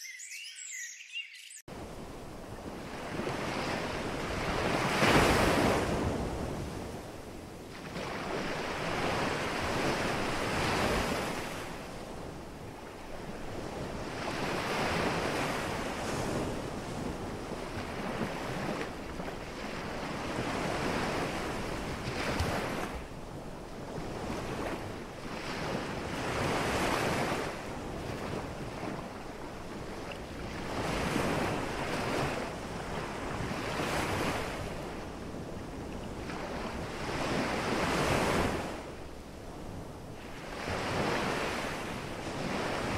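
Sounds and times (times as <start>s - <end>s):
small waves breaking on shore: 1.7s - 42.9s.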